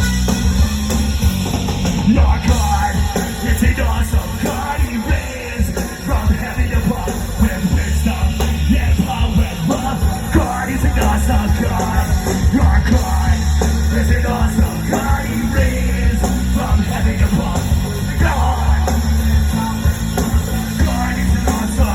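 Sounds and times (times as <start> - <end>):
ska punk band playing loud: 0.0 - 21.9.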